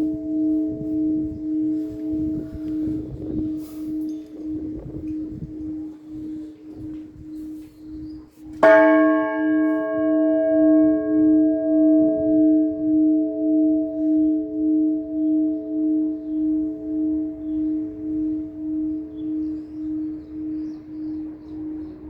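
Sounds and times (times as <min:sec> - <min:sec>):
church bell strike: 0:00.0 - 0:22.0
low bell hum pulsing: 0:00.0 - 0:22.0.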